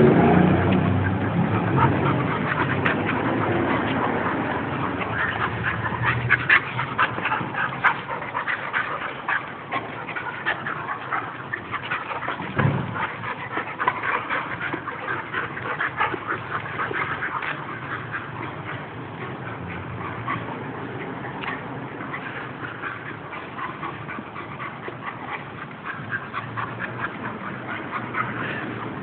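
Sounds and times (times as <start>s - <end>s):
dogs playing: 0.0s - 29.0s.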